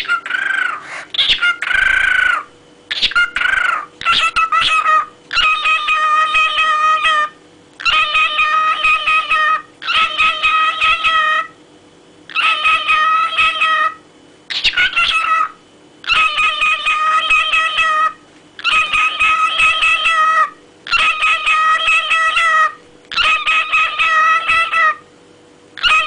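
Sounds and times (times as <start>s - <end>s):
cockatiel calling: 0.0s - 11.6s, 12.3s - 25.0s, 25.8s - 26.0s.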